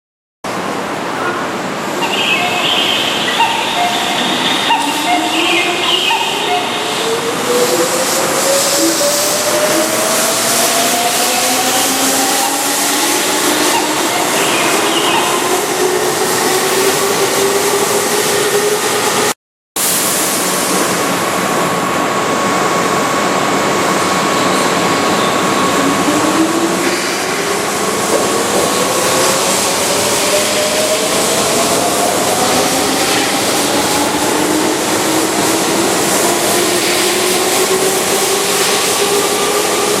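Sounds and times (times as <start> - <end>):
train rolling noise: 0.5 - 40.0.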